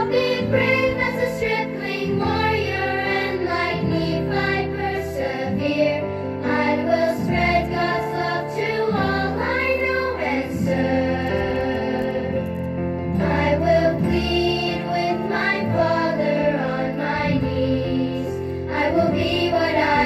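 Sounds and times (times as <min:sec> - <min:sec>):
adults and children singing: 0:00.0 - 0:12.4, 0:13.2 - 0:20.0.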